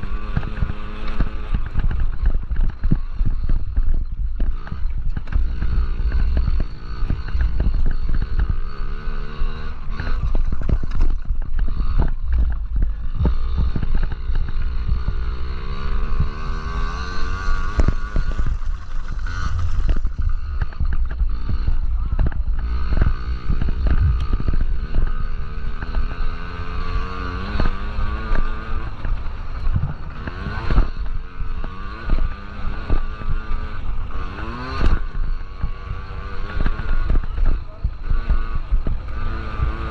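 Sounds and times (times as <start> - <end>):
minibike engines revving: 0.0 - 39.9.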